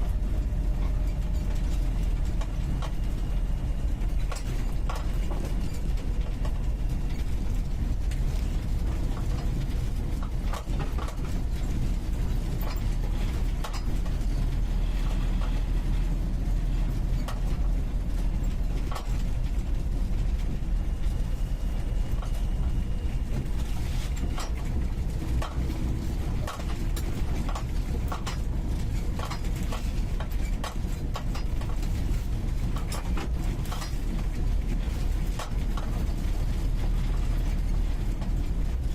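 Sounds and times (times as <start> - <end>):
car engine running from inside: 0.0 - 38.9
knocks and rattles of loose parts: 0.0 - 38.9.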